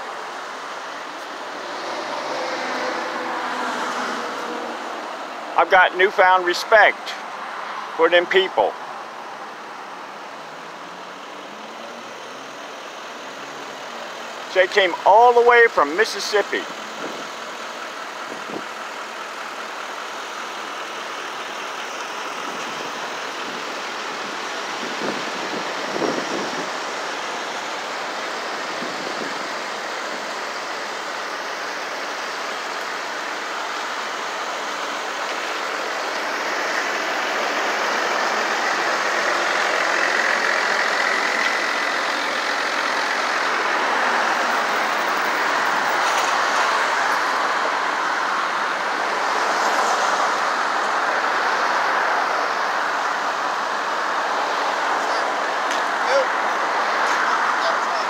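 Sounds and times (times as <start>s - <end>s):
truck engines running: 0.0s - 58.0s.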